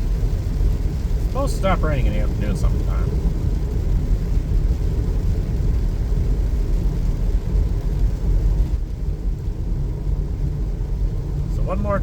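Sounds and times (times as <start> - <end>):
car driving on wet road: 0.0 - 12.0
rain: 0.0 - 12.0.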